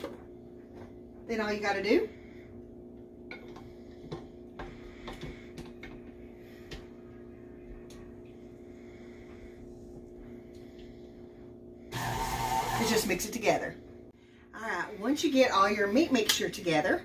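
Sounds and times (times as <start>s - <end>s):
steady low hum: 0.0s - 12.0s, 12.8s - 17.0s.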